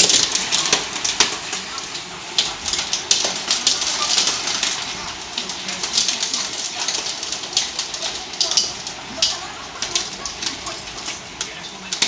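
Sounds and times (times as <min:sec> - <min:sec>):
hailstones clattering: 0:00.0 - 0:12.0
hiss of falling hail and rain: 0:00.0 - 0:12.0.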